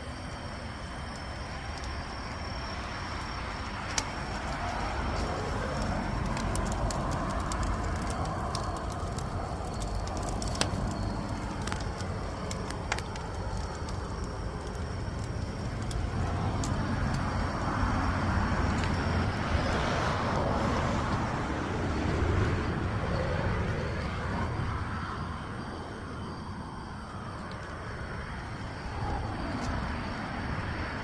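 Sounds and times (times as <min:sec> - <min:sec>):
fire crackles and pops: 0:00.0 - 0:26.0, 0:27.1 - 0:31.0
firewood burning: 0:00.0 - 0:31.0.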